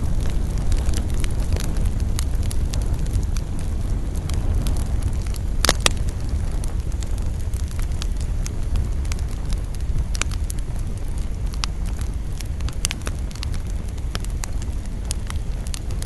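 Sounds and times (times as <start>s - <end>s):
campfire wood crackling: 0.0s - 16.0s
low steady rumble of fire: 0.0s - 16.0s
sharp pops from fire: 0.0s - 16.0s.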